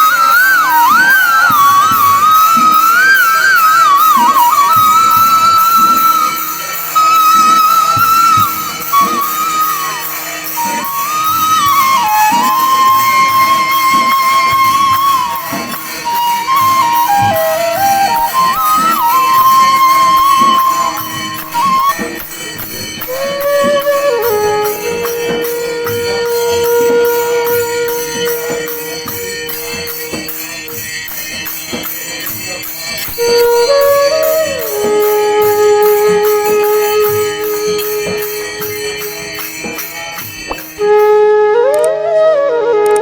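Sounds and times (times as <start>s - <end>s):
jingling percussion: 0.0s - 41.5s
wind instrument sliding notes: 0.0s - 43.0s.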